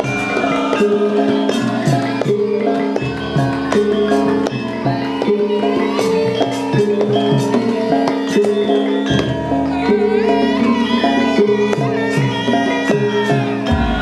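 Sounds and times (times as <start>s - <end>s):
bronze metallophone notes: 0.0s - 14.0s
drums: 0.0s - 14.0s
wavering higher melody: 0.0s - 14.0s.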